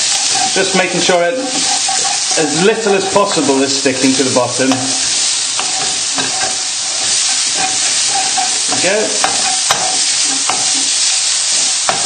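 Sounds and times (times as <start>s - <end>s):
wooden spatula scraping pan: 0.0s - 3.6s, 4.8s - 11.0s
bacon sizzling in hot oil: 0.0s - 12.0s.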